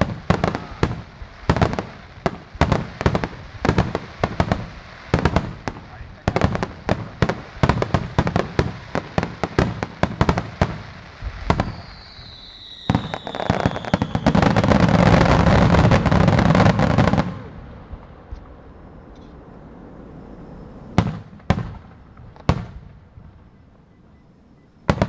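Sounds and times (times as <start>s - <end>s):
falling firework whistle: 0.0s - 25.0s.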